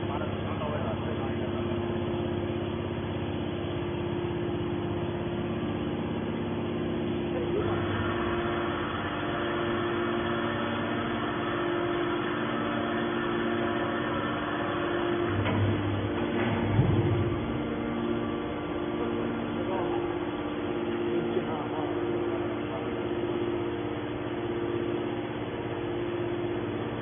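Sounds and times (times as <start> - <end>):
hydraulic baler humming: 0.0 - 27.0.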